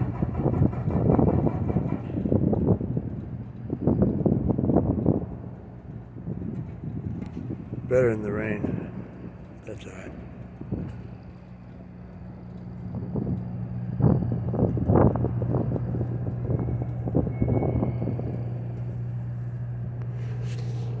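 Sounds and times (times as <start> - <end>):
steady engine hum: 0.0 - 21.0
vehicles passing: 0.0 - 21.0.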